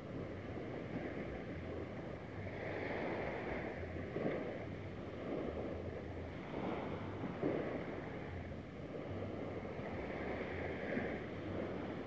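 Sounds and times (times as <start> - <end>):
small waves washing onto beach: 0.0 - 12.0
wind buffeting microphone: 0.0 - 12.0.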